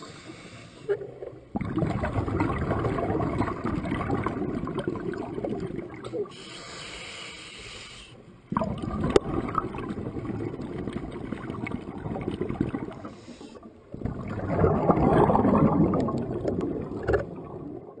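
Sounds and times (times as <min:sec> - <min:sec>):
water gurgling and bubbling: 0:01.0 - 0:06.3, 0:08.5 - 0:18.0.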